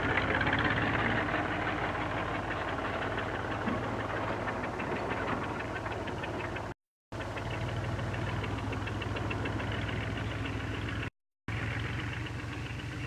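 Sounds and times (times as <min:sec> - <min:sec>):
farm vehicle engine knocking: 0:00.0 - 0:13.0.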